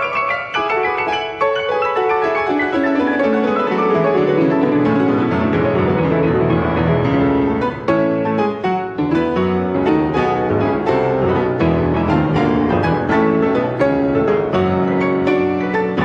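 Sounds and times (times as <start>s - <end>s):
two pianos playing: 0.0s - 16.0s.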